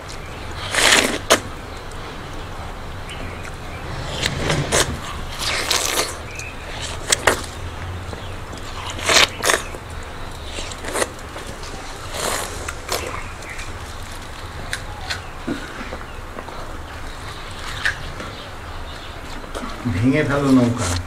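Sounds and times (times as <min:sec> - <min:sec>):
people biting juicy watermelon: 0:00.0 - 0:19.8
steady low hum: 0:00.0 - 0:20.0.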